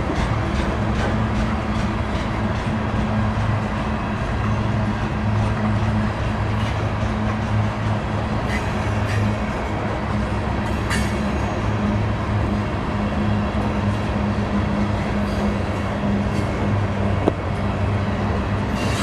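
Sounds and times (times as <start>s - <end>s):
train rolling past: 0.0s - 19.0s.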